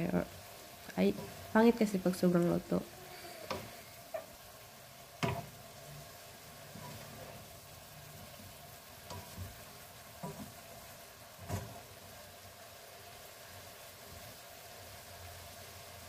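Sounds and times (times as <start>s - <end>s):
vegetables sizzling in a frying pan: 0.0s - 16.0s.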